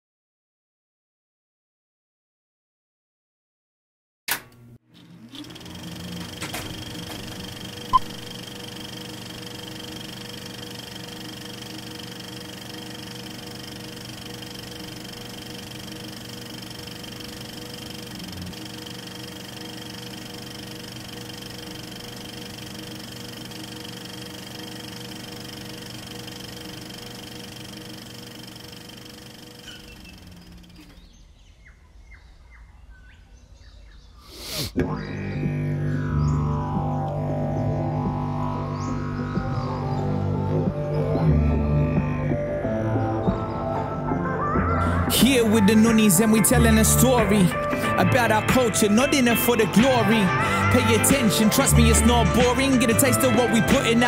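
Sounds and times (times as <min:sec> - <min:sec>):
low hum: 0:05.0 - 0:33.6, 0:34.8 - 0:54.0.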